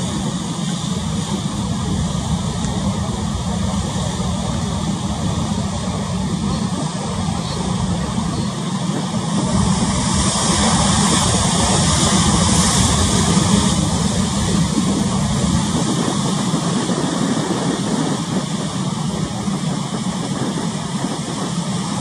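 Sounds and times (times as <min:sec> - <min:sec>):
sea noise: 0:00.0 - 0:22.0
wind rumbling on microphone: 0:00.0 - 0:22.0.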